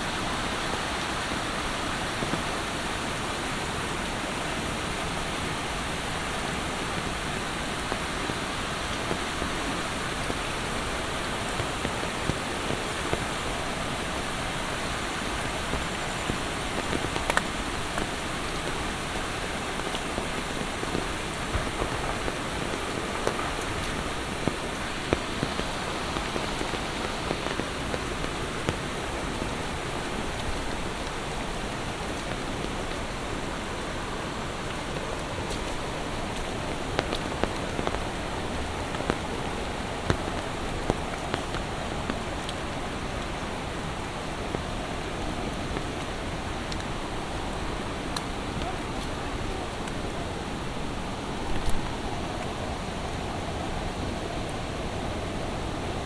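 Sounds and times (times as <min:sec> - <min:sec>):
rain hissing: 0:00.0 - 0:56.0.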